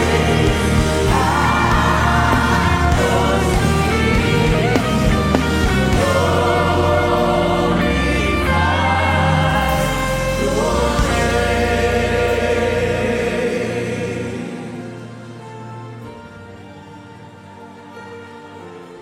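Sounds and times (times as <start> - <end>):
choir singing gospel song: 0.0 - 19.0
low instrumental backing: 0.0 - 19.0.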